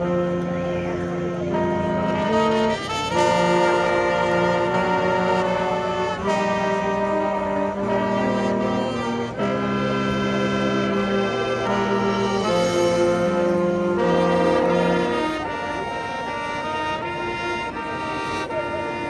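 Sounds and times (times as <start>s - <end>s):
marching band brass chords: 0.0s - 19.0s.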